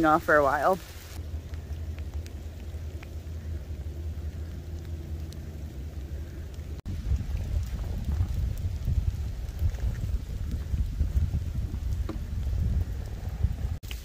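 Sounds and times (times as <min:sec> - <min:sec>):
faint rain patter: 0:00.0 - 0:14.0
wind buffeting microphone: 0:01.1 - 0:13.9.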